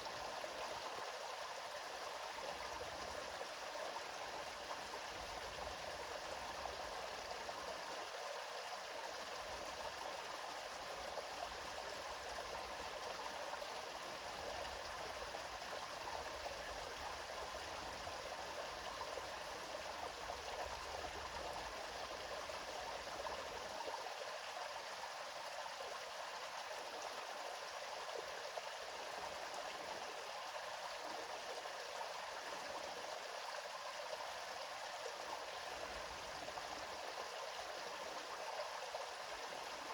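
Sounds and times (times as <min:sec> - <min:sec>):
stream flowing and babbling: 0:00.0 - 0:39.9.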